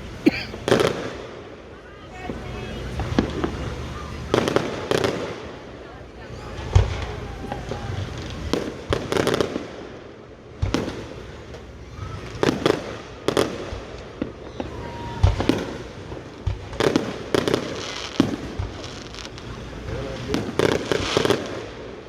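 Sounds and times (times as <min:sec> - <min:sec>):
fireworks booms and bangs: 0:00.0 - 0:22.0.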